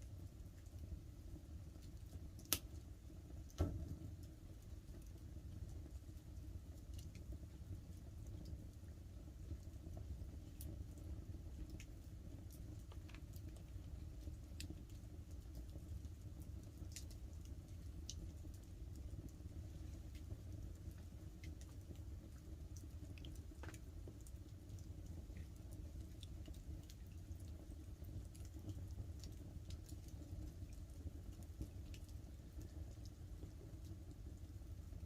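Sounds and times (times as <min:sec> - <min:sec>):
light rain pattering on tarp: 0:00.0 - 0:35.0
campfire crackling and popping: 0:00.6 - 0:35.0.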